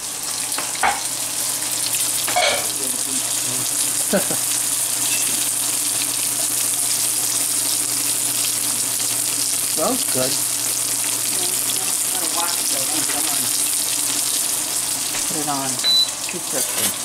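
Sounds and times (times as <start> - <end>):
fish frying in oil: 0.0 - 17.0.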